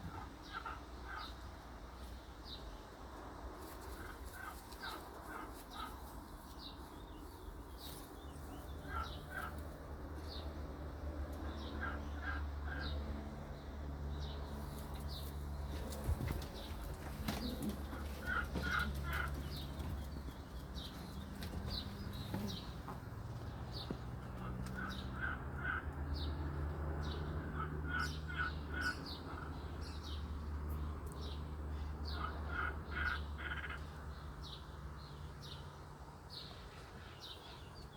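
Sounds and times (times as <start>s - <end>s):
birds chirping: 0.0s - 2.9s, 4.0s - 10.5s, 11.4s - 37.9s.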